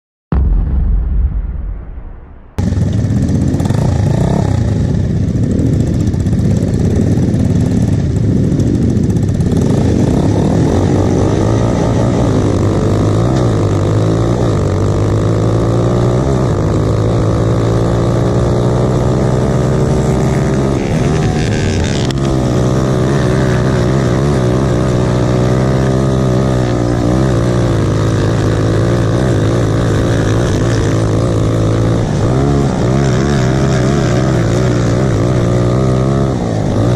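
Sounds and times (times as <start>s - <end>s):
kart engine revving: 2.6s - 36.9s.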